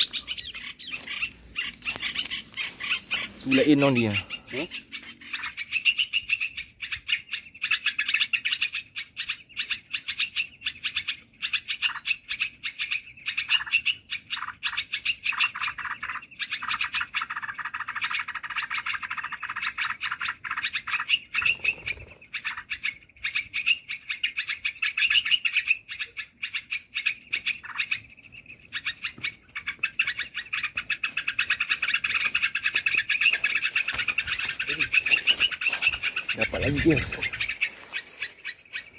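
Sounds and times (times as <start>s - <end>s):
small birds chattering chirps: 0.0s - 38.9s.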